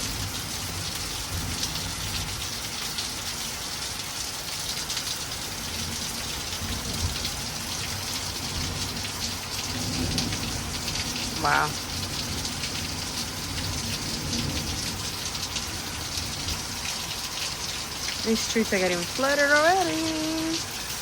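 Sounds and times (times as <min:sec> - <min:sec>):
heavy rain pattering: 0:00.0 - 0:21.0.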